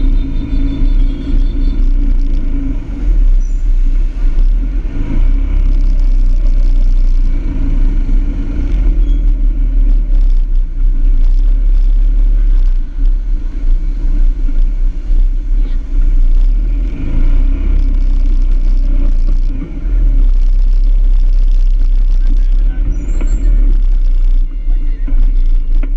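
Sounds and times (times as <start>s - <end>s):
motor scooter engines running: 0.0s - 25.9s
wind rumble on microphone: 0.0s - 25.9s.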